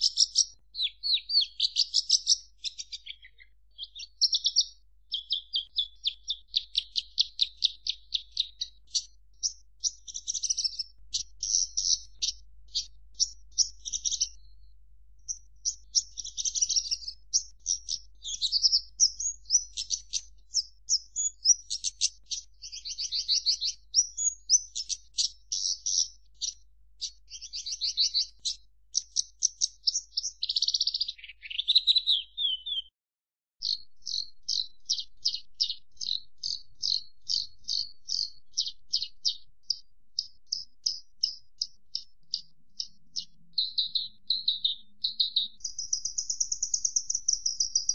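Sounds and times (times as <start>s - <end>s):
bird evenly repeated notes: 0.0s - 32.9s, 33.6s - 47.9s
bird singing chirps and trills: 0.0s - 32.9s, 33.6s - 47.9s.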